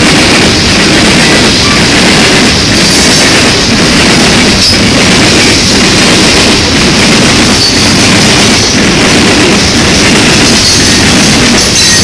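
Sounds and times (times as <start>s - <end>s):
steel wheels rattling on rails: 0.0s - 12.0s.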